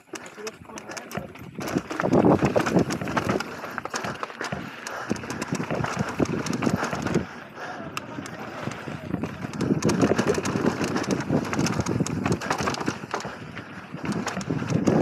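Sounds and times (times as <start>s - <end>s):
bike rattling over bumps: 0.0s - 15.0s
tyres rolling over gravel: 0.0s - 15.0s.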